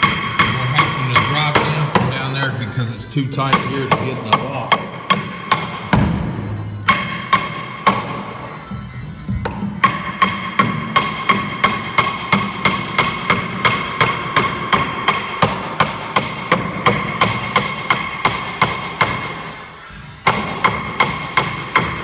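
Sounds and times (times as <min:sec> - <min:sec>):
hammer blows with metallic ring: 0:00.0 - 0:02.7, 0:03.3 - 0:22.0.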